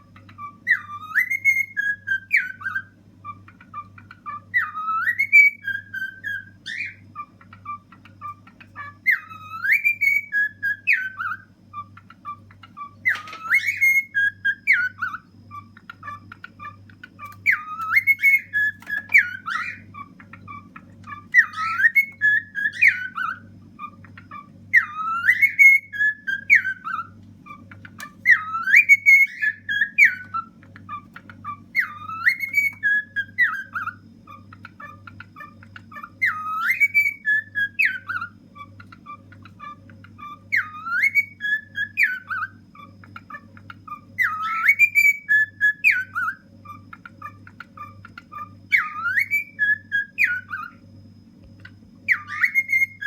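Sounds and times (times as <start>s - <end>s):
steady low hum: 0.0s - 53.0s
cockatiel whistling: 0.1s - 50.8s, 52.0s - 53.0s.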